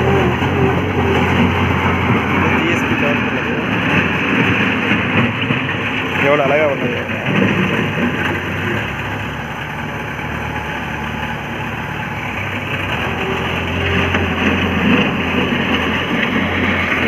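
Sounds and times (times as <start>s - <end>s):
levelling machine engine running: 0.0s - 17.0s.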